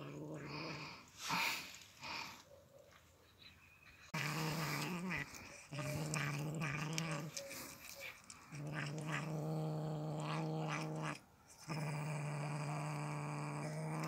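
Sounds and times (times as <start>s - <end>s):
cat growling: 0.0s - 2.4s, 4.1s - 14.0s.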